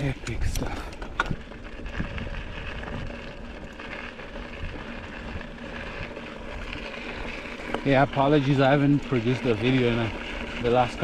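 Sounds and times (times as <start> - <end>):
bike tyre and wind noise: 0.0 - 11.0.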